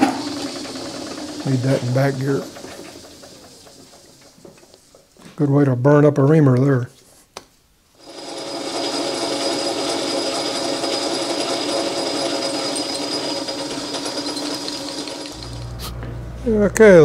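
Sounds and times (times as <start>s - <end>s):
metal lathe running with whine: 0.0s - 4.7s, 8.0s - 17.0s.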